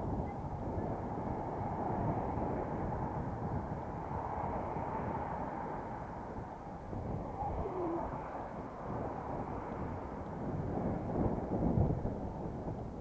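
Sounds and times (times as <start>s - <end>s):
road traffic noise: 0.0s - 13.0s
wind buffeting microphone: 0.0s - 13.0s.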